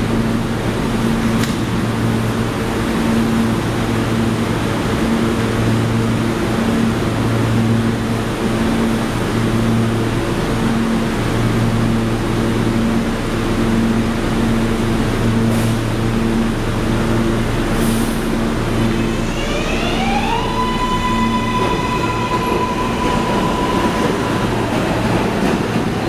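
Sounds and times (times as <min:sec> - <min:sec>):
subway car equipment whir: 0:00.0 - 0:26.0.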